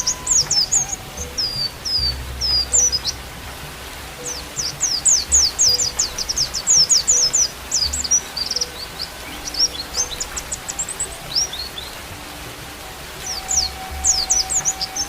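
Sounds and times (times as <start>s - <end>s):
bird twittering song: 0.0s - 15.0s.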